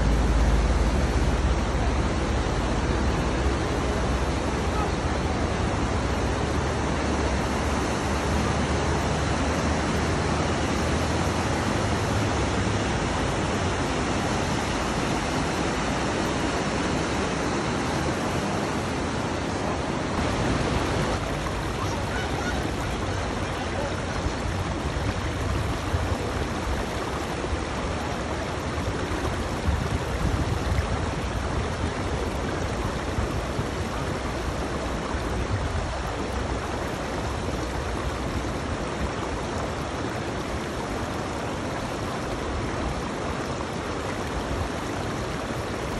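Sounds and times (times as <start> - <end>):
river rapids rushing over rocks: 0.0 - 45.9.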